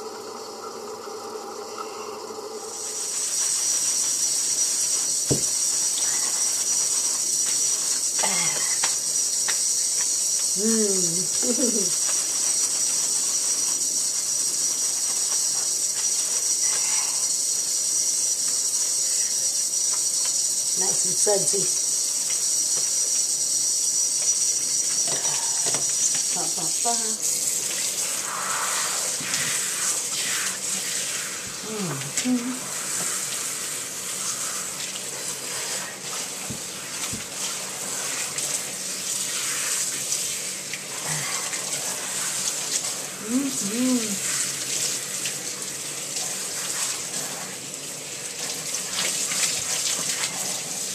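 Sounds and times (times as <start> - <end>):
faucet spray running into sink: 0.0 - 50.9.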